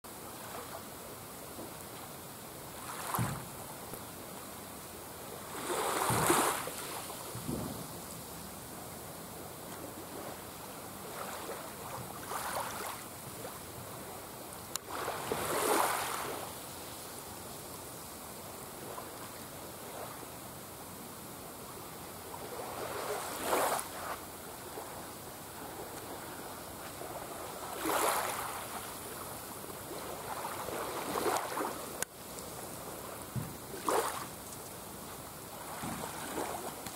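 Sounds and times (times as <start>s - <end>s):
low hiss of water: 0.0s - 36.9s
small waves lapping on beach: 0.1s - 36.9s.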